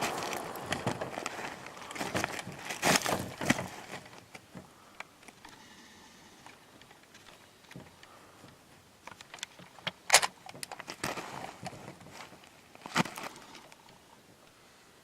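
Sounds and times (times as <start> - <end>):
rifle gear clicks and rattles: 0.0 - 5.6, 6.4 - 14.1.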